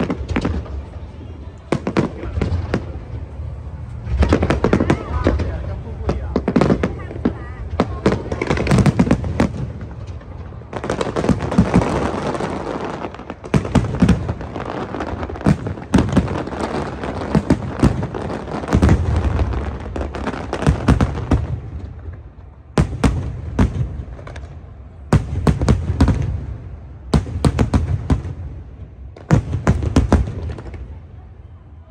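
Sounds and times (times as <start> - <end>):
continuous rumble: 0.0 - 31.9
fireworks bangs and crackling: 0.0 - 31.9.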